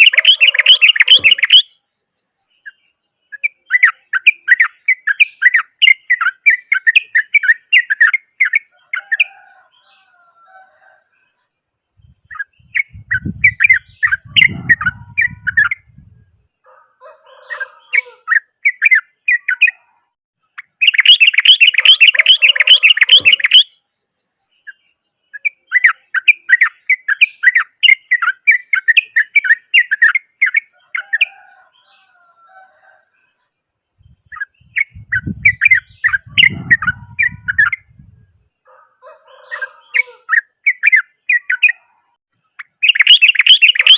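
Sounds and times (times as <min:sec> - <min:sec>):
bulbul chattering song: 0:00.0 - 0:10.2, 0:11.9 - 0:16.4, 0:17.3 - 0:32.2, 0:33.9 - 0:38.3, 0:39.3 - 0:43.9.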